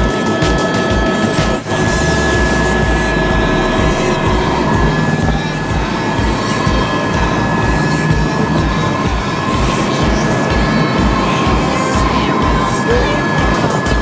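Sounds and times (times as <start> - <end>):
helicopter rotor beats: 0.0 - 14.0
high turbine whine: 0.0 - 14.0.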